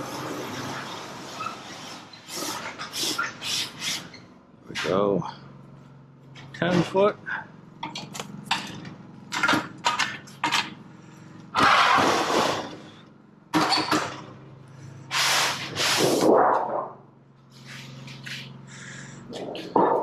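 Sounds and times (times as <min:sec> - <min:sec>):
steady low hum: 0:02.5 - 0:20.0.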